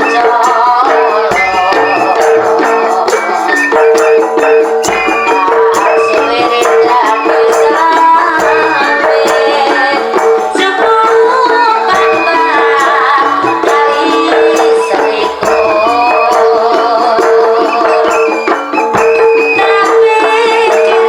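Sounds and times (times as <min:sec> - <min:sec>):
pulsing held tone: 0:00.0 - 0:10.6, 0:11.4 - 0:21.0
percussion strokes: 0:00.0 - 0:21.0
wavering melody line: 0:00.0 - 0:21.0.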